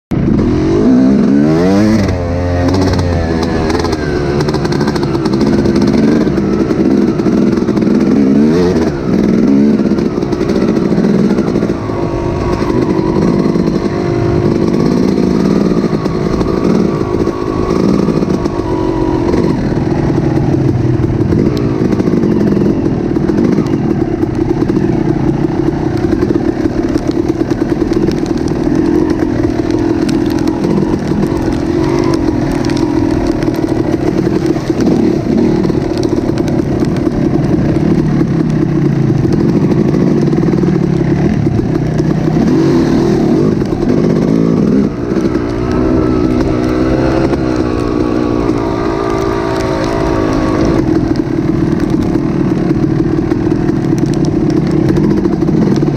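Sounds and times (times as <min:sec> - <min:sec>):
engine revving: 0:00.1 - 0:55.9.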